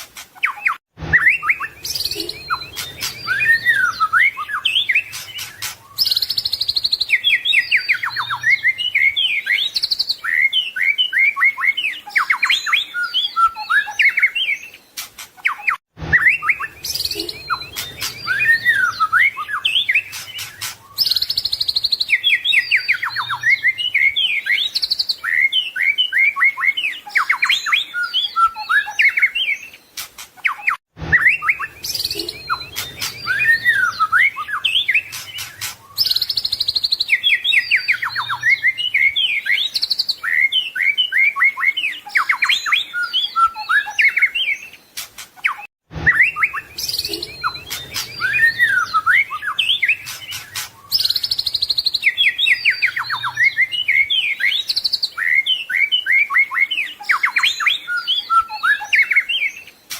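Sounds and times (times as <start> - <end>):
songbird singing varied song: 0.4 - 59.9.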